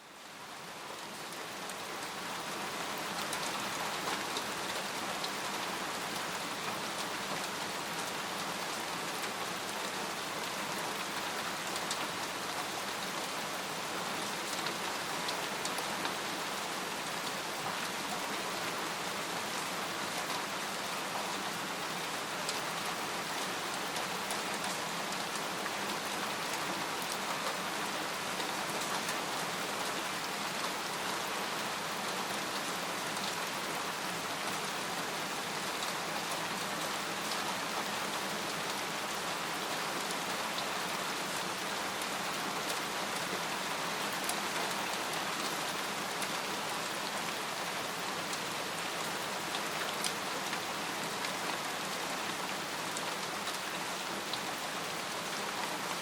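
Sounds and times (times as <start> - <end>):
rain pattering on a tent: 0.0 - 56.0.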